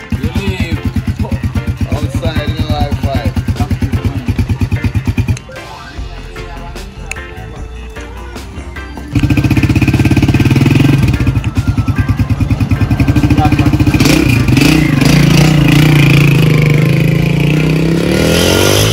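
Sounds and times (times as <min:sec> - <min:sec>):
motorcycle engine revving: 0:00.0 - 0:05.4, 0:09.1 - 0:18.9.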